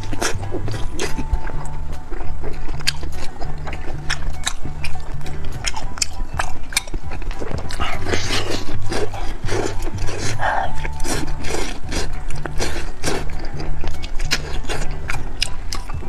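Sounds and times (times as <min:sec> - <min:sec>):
chewing with wet smacking: 0:00.0 - 0:16.0.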